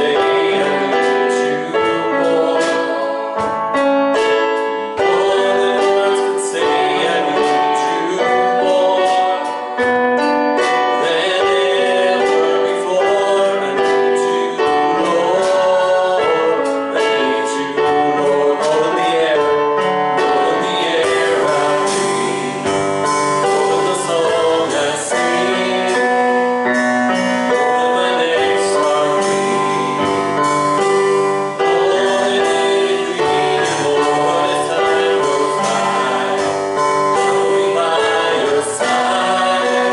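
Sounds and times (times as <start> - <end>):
gospel singing: 0.0 - 39.9
piano accompaniment: 0.0 - 39.9.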